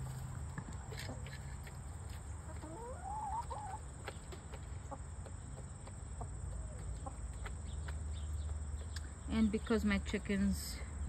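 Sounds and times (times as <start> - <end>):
hens clucking: 0.1 - 9.1.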